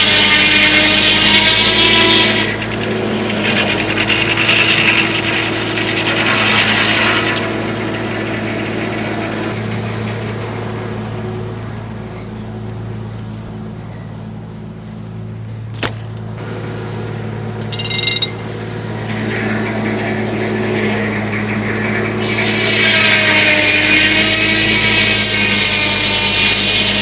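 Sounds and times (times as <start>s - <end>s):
circular saw cutting log: 0.0s - 11.6s, 16.4s - 27.0s
tractor engine running: 0.0s - 25.6s.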